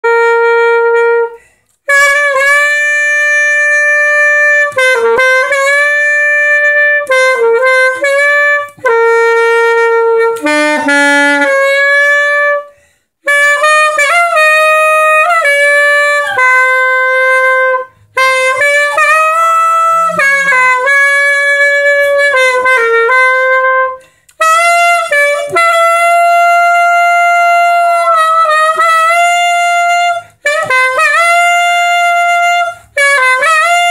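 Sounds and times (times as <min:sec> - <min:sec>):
saxophone melody: 0:00.0 - 0:33.9.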